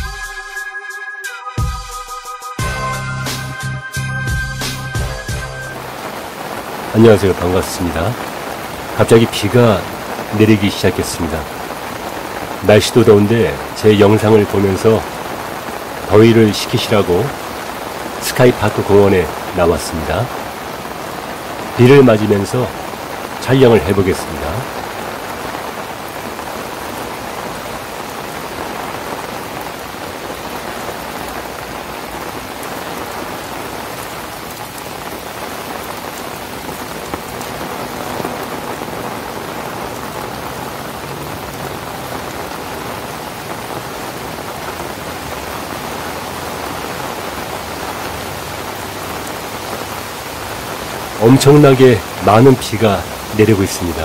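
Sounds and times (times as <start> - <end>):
heavy rain falling: 2.6 - 54.0.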